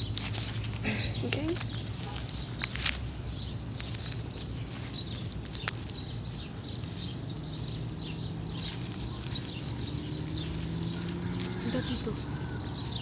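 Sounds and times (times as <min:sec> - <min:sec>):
hands rustling soil and plants: 0:00.0 - 0:13.0
low outdoor rumble: 0:00.0 - 0:13.0.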